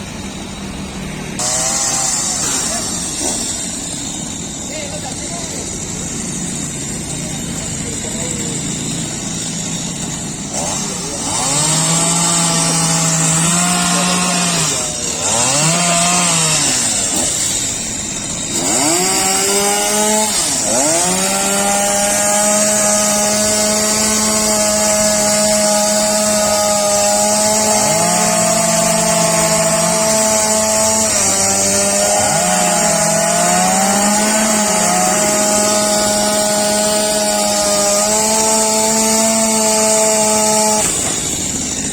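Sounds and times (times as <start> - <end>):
chainsaw engine revving: 0.0 - 41.9.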